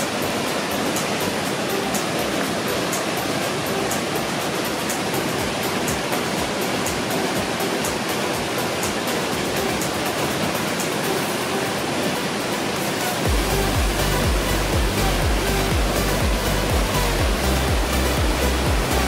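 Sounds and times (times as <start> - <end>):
water rushing over cascade: 0.0 - 19.0.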